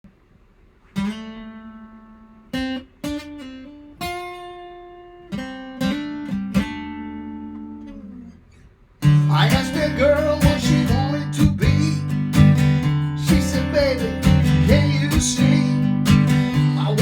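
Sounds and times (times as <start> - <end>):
acoustic guitar chords ringing: 1.0 - 17.0.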